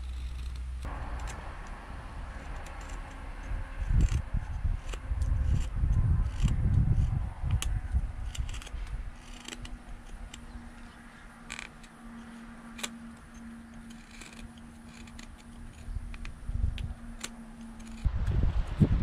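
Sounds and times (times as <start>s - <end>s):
knife scraping wood: 0.0s - 1.4s, 2.2s - 18.1s.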